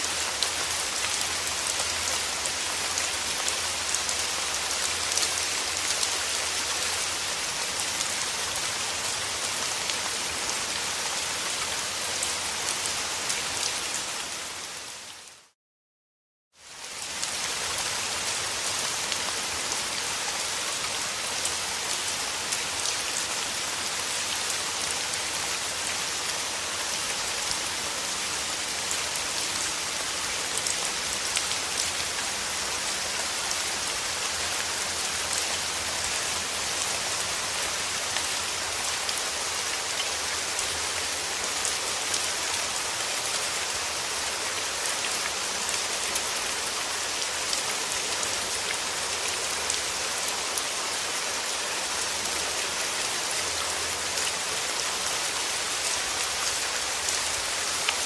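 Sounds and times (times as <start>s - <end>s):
steady rain falling: 0.0s - 15.6s, 16.5s - 58.0s.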